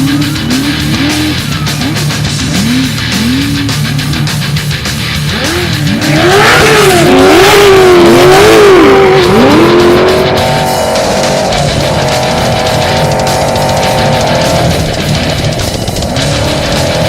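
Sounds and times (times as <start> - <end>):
heavy metal music: 0.0 - 17.0
off-road vehicle engine revving: 0.0 - 17.0.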